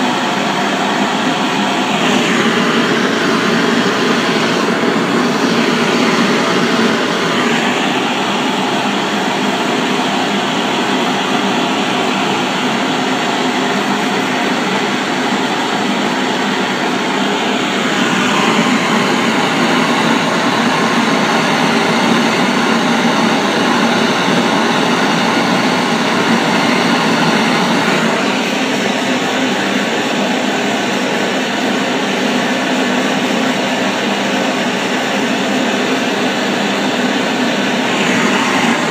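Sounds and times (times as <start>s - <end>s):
blowtorch flame rushing: 0.1s - 38.9s.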